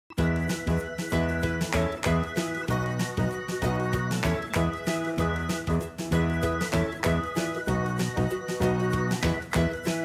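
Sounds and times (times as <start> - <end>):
background music with steady beat: 0.1 - 10.0.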